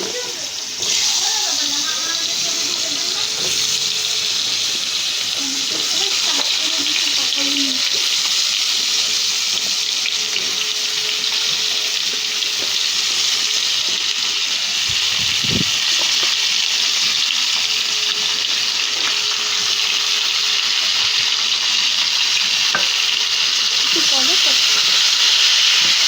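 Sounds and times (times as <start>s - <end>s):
potatoes sizzling in hot oil: 0.0s - 26.0s.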